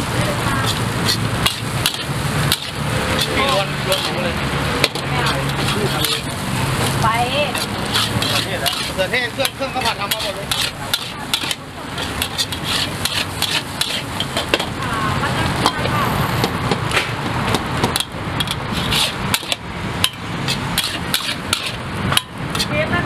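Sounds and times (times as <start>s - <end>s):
frying sizzle: 0.0s - 23.0s
metal spatula scraping wok: 0.0s - 23.0s.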